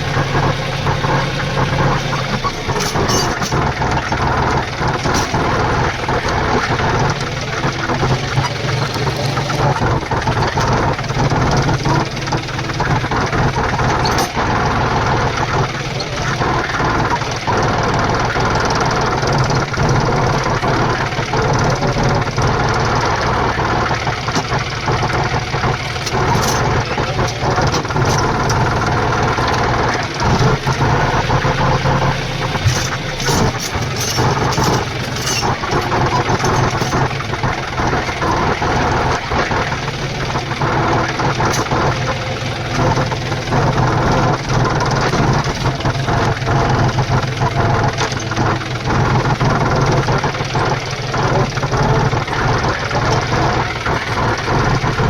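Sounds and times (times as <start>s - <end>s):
tractor diesel engine running: 0.0s - 55.0s
sharp clicks and knocks: 0.9s - 55.0s.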